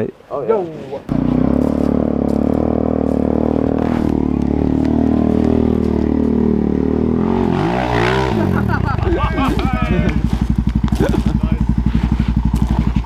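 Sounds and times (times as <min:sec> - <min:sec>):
motorcycle engine running: 0:01.1 - 0:13.0.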